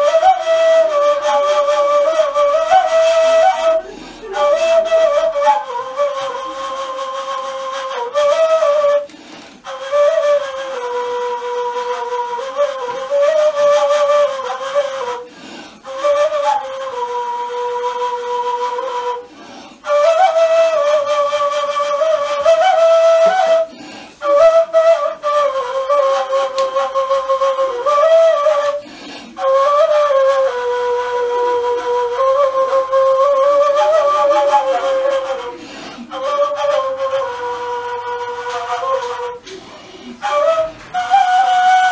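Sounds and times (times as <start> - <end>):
end-blown flute melody: 0.0 - 28.8, 29.4 - 41.9.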